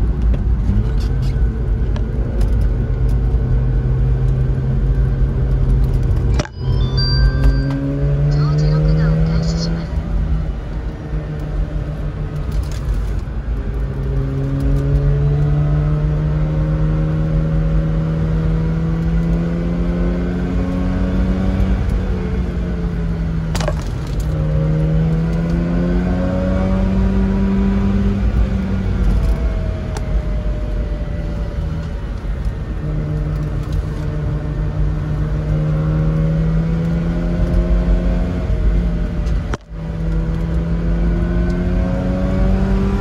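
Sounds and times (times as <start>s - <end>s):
car engine revving: 0.4s - 43.0s.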